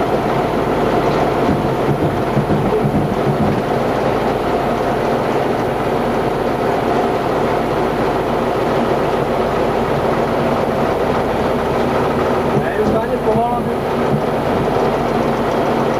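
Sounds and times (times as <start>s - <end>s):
truck diesel engine rumble: 0.0s - 15.9s.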